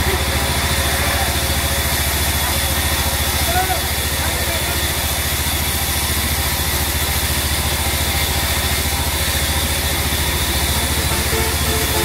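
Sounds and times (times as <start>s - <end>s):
band saw droning: 0.0s - 12.0s.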